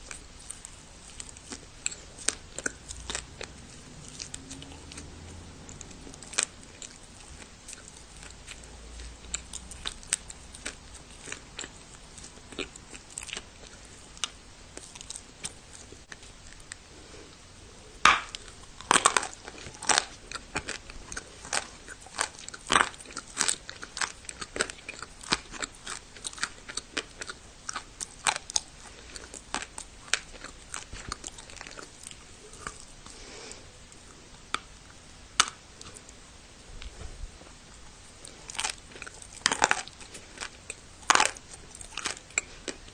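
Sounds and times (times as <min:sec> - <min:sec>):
crunchy chewing of dry clay: 0:00.0 - 0:42.9.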